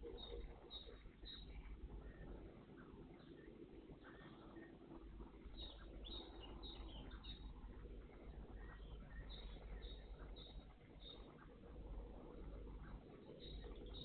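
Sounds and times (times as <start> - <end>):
low steady rumble: 0.0 - 14.0
small songbirds chirping: 0.0 - 14.0.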